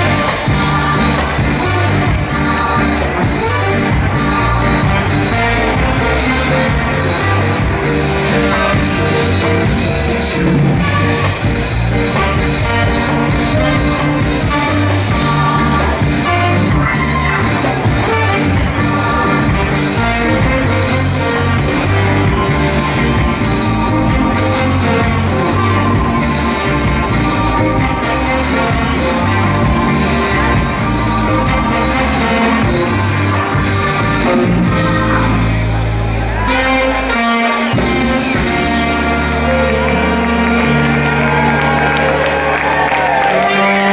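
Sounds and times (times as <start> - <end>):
live ska band playing: 0.0 - 43.9.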